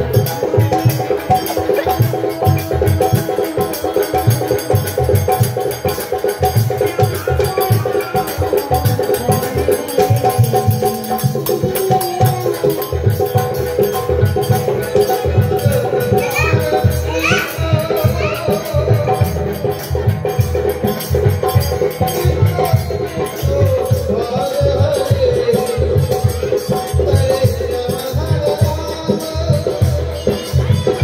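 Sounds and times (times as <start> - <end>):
harmonium melody: 0.0 - 31.0
steady drum beat: 0.0 - 31.0.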